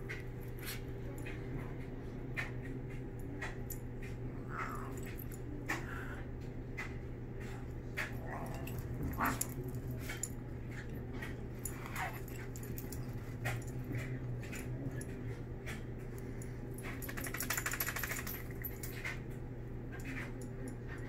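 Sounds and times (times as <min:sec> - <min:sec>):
pets scuffling and clicking: 0:00.0 - 0:21.0
steady low hum: 0:00.0 - 0:21.0.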